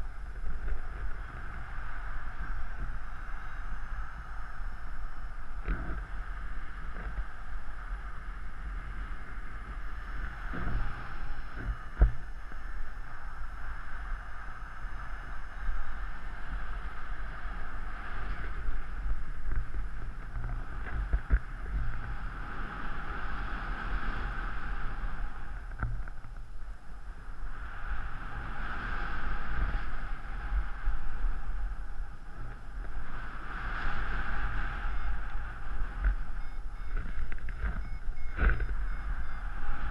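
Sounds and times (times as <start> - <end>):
wind on camera microphone: 0.0 - 39.9.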